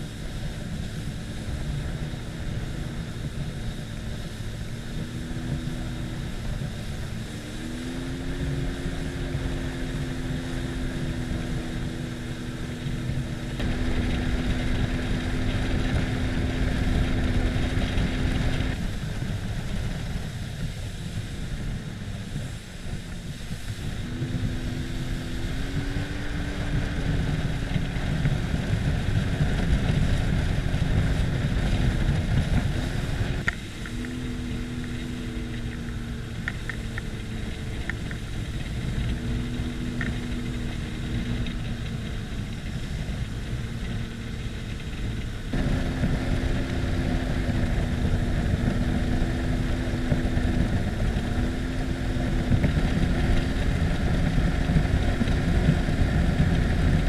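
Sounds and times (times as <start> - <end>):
jet ski engine drone: 0.0 - 57.0
wind and spray rushing: 0.0 - 57.0.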